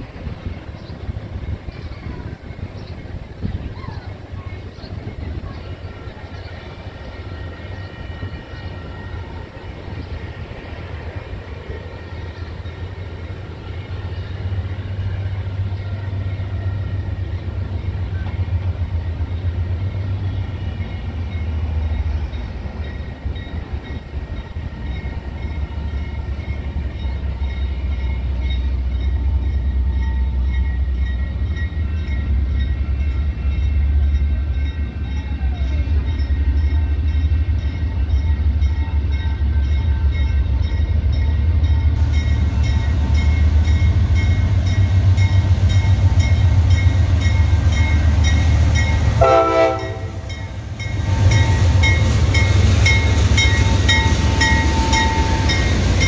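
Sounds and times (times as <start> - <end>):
diesel locomotive rumble: 0.0 - 56.0.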